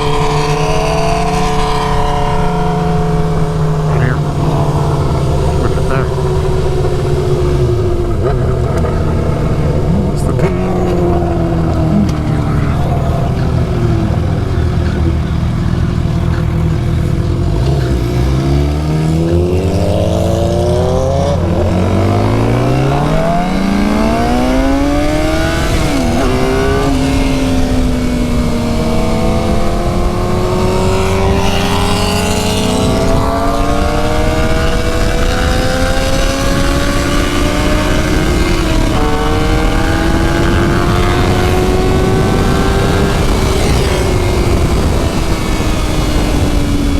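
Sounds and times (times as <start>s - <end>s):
wind rush: 0.0s - 18.4s, 19.0s - 46.9s
motorcycle engine accelerating: 0.0s - 46.9s.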